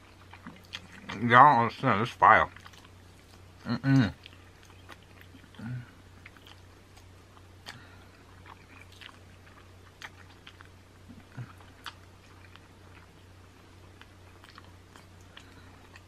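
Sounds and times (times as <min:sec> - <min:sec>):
faint low hum: 0:00.0 - 0:16.0
person chewing meat: 0:00.0 - 0:16.0.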